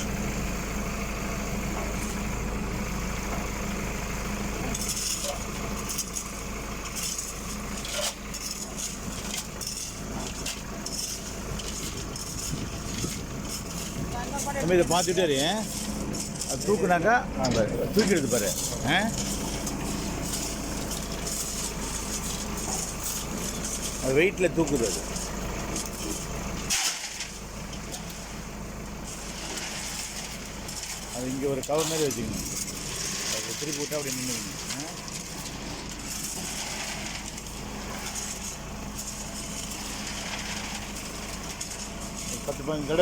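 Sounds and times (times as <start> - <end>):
concrete mixer rattling: 0.0 - 43.0
tractor engine running: 0.0 - 43.0.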